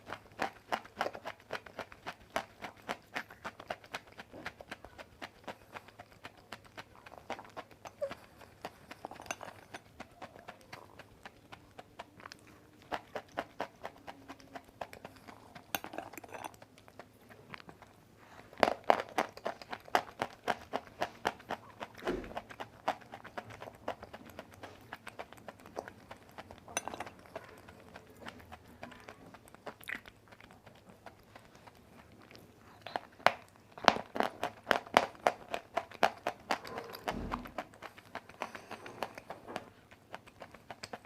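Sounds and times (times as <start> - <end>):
chewing crunchy clay: 0.0 - 41.0.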